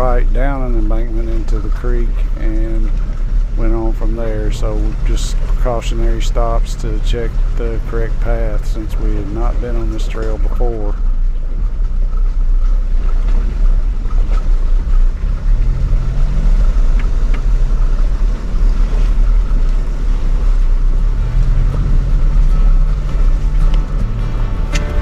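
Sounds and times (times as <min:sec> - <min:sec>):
off-road vehicle engine rumbling: 0:00.0 - 0:25.0.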